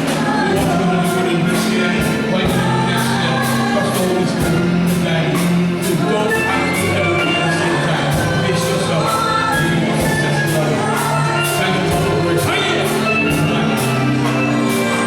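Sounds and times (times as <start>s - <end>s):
band playing steady beat: 0.0s - 15.0s
gospel voices singing together: 0.0s - 15.0s.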